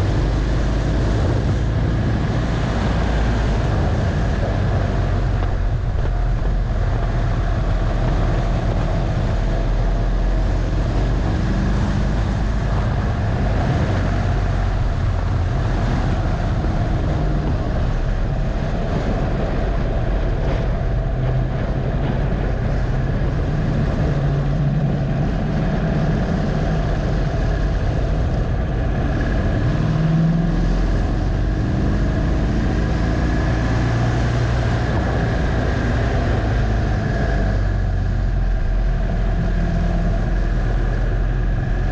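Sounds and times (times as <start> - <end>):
motorcycle engine running hard: 0.0 - 41.9
wind rush over microphone: 0.0 - 41.9.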